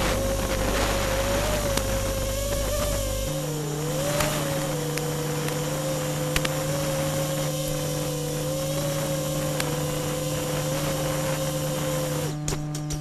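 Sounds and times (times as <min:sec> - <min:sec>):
drone propellers buzzing: 0:00.0 - 0:13.0
low hum and hiss: 0:00.0 - 0:13.0.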